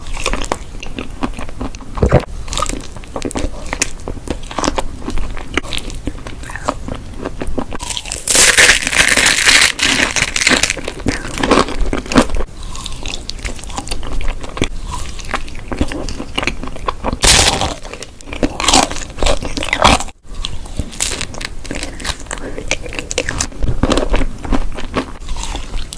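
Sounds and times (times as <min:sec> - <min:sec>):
person chewing crunchy food: 0:00.0 - 0:25.9.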